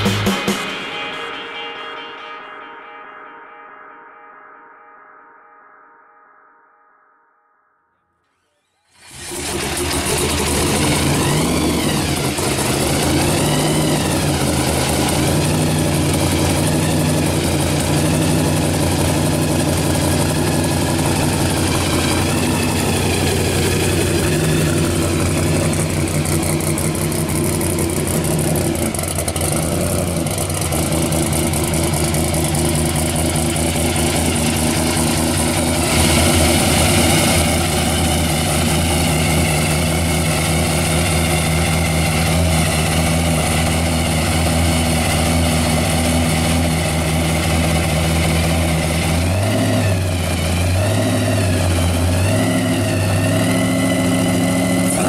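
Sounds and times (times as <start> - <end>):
supercharged engine idling: 8.4 - 55.0.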